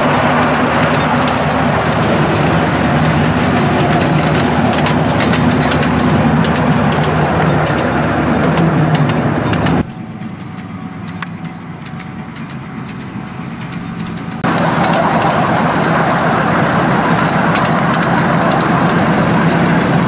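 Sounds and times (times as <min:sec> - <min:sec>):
locomotive engine running: 0:00.0 - 0:20.0
train riding along track: 0:00.0 - 0:20.0.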